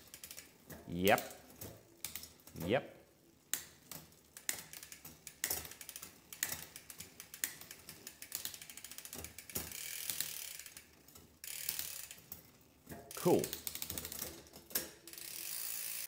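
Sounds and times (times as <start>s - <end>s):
bike chain ticking over cassette: 0.0s - 16.0s.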